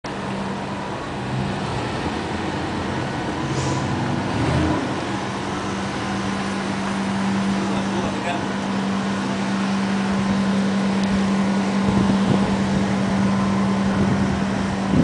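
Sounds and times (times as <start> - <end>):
vehicle engine idling: 0.1 - 15.0.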